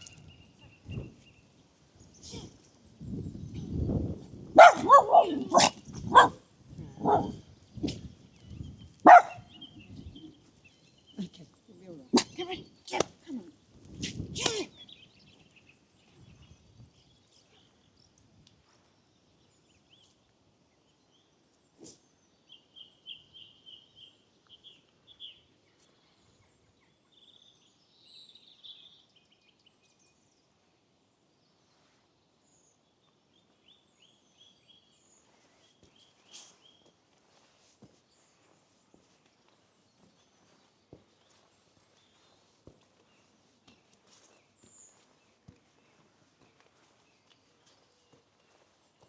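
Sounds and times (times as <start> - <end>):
small birds singing: 0.0 - 49.0.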